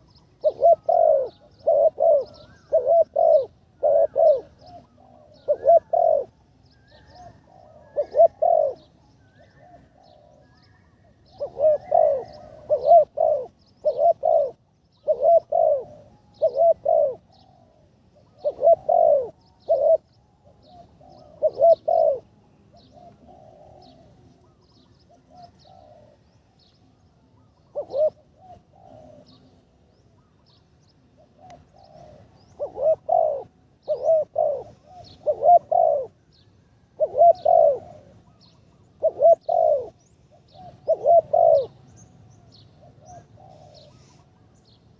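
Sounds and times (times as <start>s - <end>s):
dove cooing: 0.0s - 44.8s
small birds chirping: 0.0s - 44.9s.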